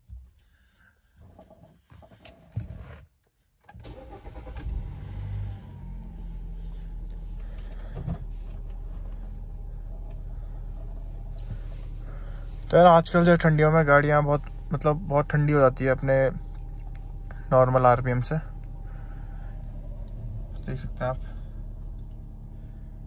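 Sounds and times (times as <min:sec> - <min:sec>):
car engine starting and idling: 0:00.5 - 0:23.0.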